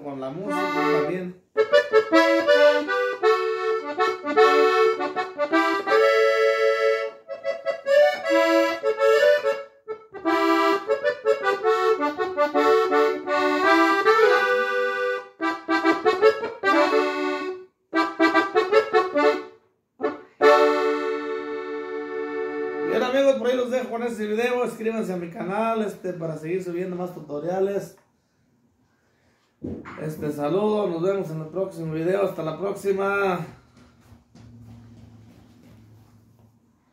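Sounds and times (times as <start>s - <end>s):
accordion melody: 0.0s - 27.0s, 30.4s - 36.5s.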